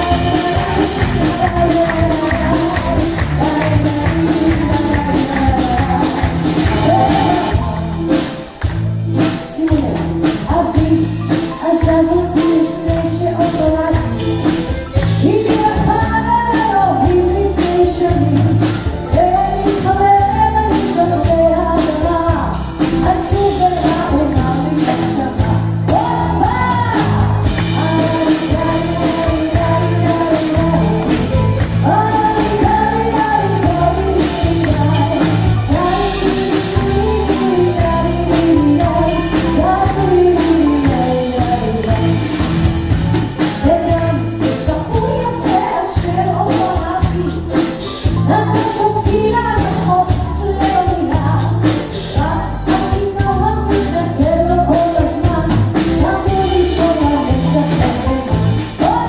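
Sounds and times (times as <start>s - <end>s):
band playing a steady beat: 0.0s - 59.0s
woman singing into a microphone: 0.0s - 59.0s.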